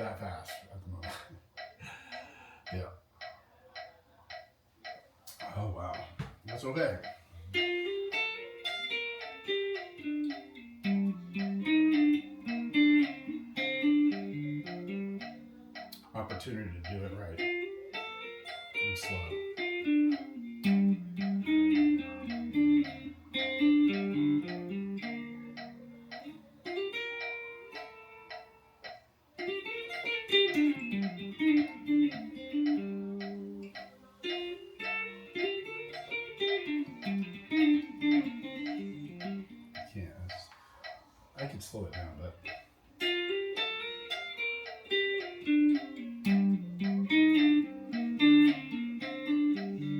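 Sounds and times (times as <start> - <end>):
guitar picked notes: 4.8 - 49.9.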